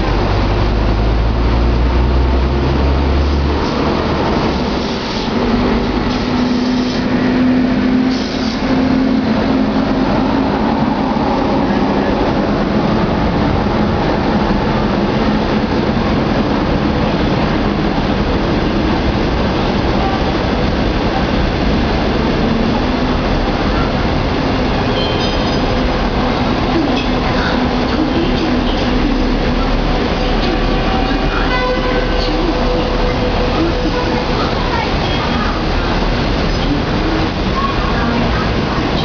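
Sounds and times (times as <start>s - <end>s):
passenger train passing on rails: 0.0s - 39.0s.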